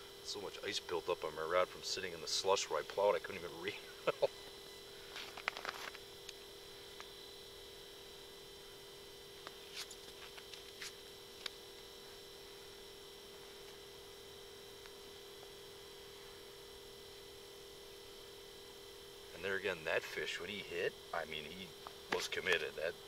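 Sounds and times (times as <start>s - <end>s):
faint electronic hum: 0.0s - 23.0s.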